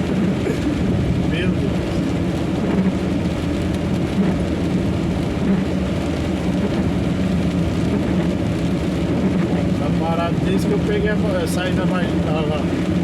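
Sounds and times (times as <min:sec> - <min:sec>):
heavy rain: 0:00.0 - 0:13.0
road noise: 0:00.0 - 0:13.0
truck engine drone: 0:00.0 - 0:13.0.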